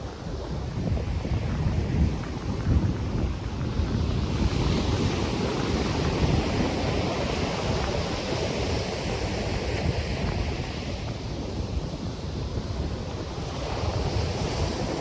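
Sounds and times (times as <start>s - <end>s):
wind rumbling on microphone: 0.0s - 15.0s
wind rustling palm fronds: 0.0s - 15.0s.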